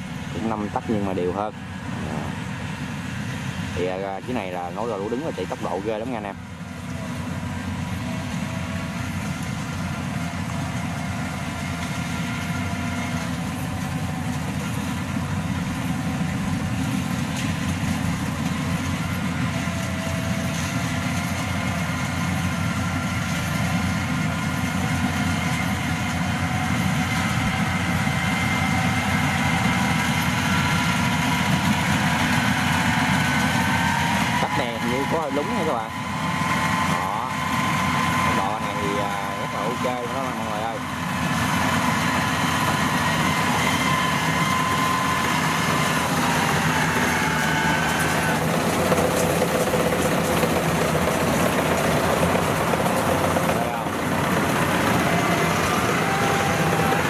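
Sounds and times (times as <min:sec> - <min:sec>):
combine harvester engine rumbling: 0:00.0 - 0:57.0
steady machine whine: 0:00.0 - 0:57.0.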